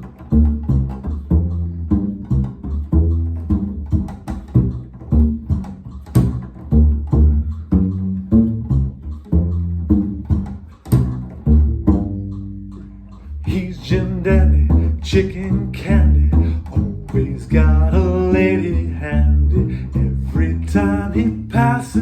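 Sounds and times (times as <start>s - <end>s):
upright bass plucked: 0.0s - 22.0s.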